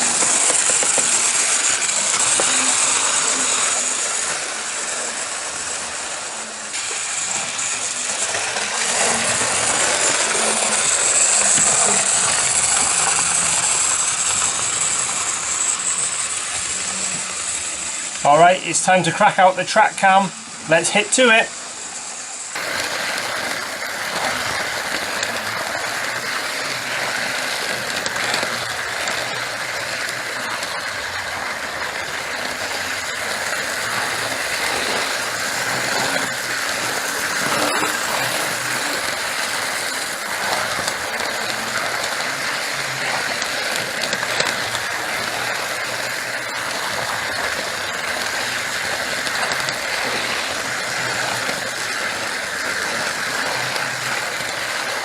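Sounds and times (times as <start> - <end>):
model train whirring rattle: 0.0 - 55.0.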